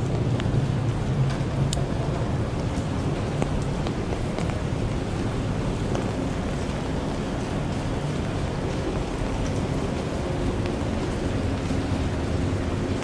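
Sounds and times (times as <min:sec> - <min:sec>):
low rumble: 0:00.0 - 0:13.0
rain hissing: 0:00.0 - 0:13.0.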